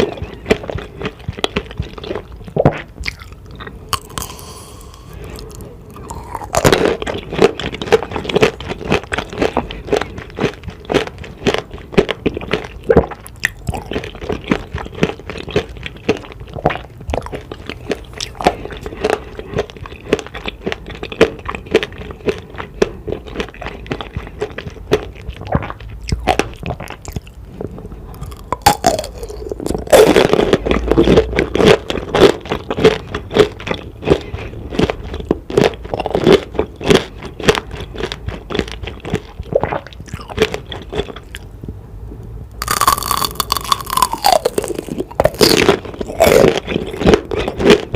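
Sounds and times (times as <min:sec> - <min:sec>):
crunching and chewing candy: 0:00.0 - 0:41.5, 0:42.6 - 0:47.9.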